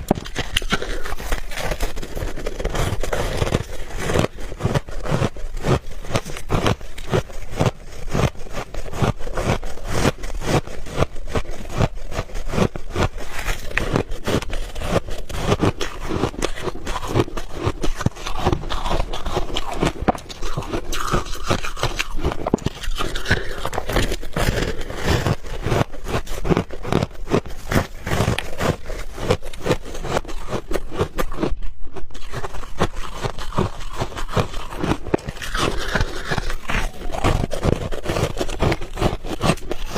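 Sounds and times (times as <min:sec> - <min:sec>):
crunching ice: 0:00.0 - 0:39.9.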